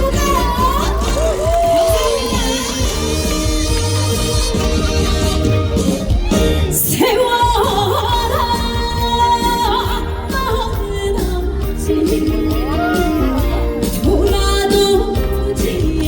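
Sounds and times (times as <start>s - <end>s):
woman singing: 0.0s - 3.8s, 6.7s - 16.0s
loud backing music: 0.0s - 16.0s.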